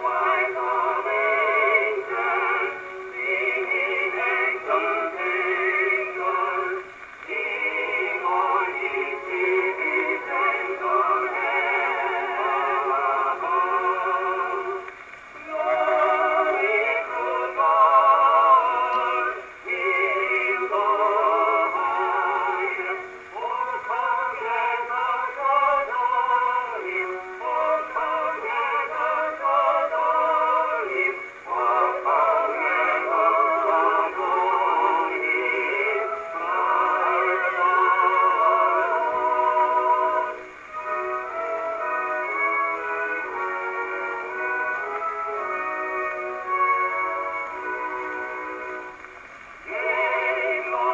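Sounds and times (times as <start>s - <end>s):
phonograph record of singing: 0.0s - 50.9s.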